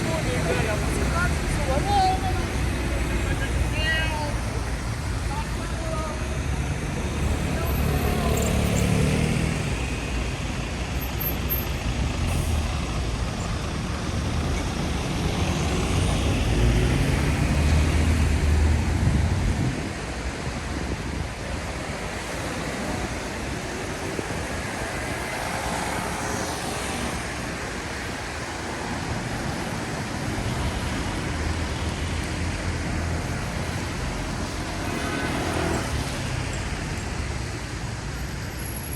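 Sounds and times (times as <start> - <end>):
heavy vehicle engine rumbling: 0.0 - 38.9
hiss of passing traffic: 0.0 - 38.9.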